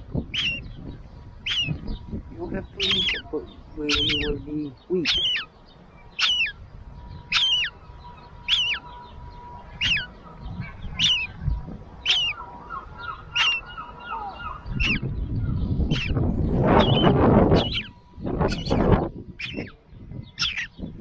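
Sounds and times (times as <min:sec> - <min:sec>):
wind rumble on microphone: 0:00.0 - 0:21.0
gull chick peeping: 0:00.2 - 0:06.6, 0:07.2 - 0:20.9.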